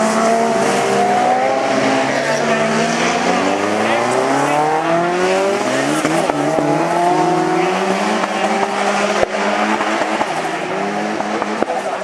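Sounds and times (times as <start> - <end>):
racing engine revving: 0.0 - 12.0.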